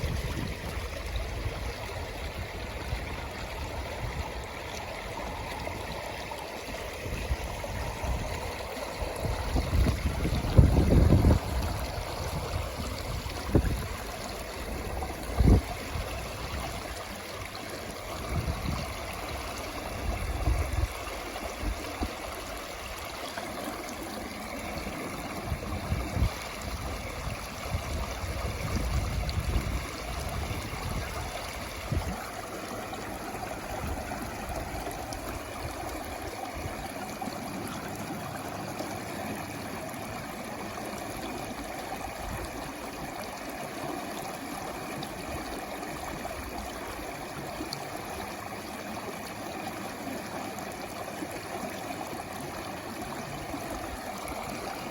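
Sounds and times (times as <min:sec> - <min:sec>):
stream water gurgling: 0:00.0 - 0:54.9.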